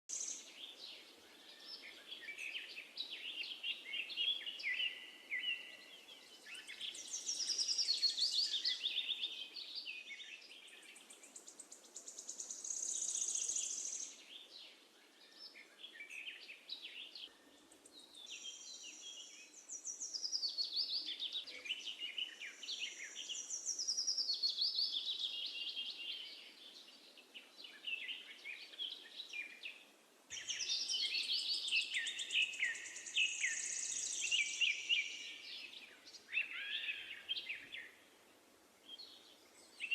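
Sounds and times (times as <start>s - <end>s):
songbirds singing: 0.0s - 39.9s
faint steady hiss: 0.1s - 39.9s.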